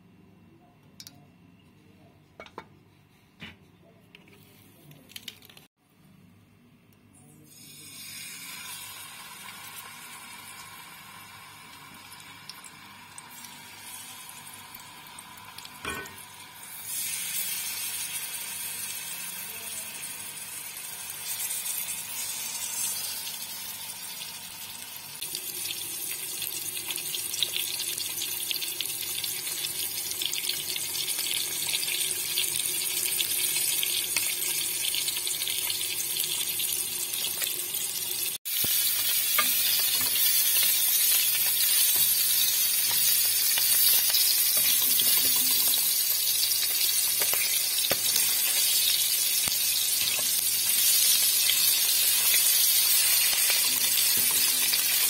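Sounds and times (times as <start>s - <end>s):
quail frying in hot oil: 7.3s - 55.0s.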